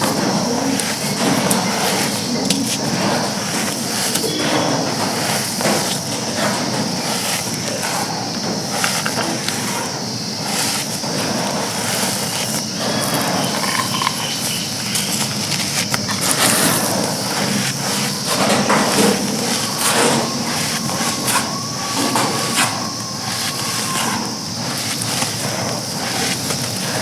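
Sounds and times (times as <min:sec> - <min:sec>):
dry chunks crunching: 0:00.0 - 0:27.0.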